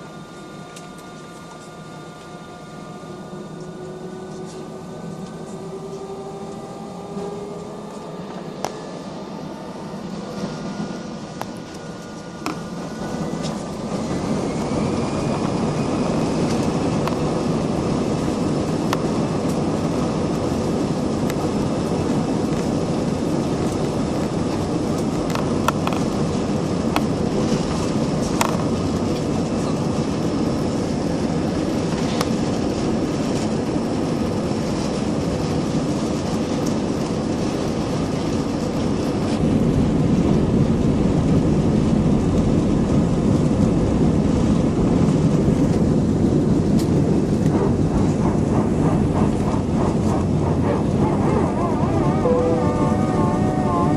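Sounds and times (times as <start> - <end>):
aircraft engines and airflow: 0.0 - 53.9.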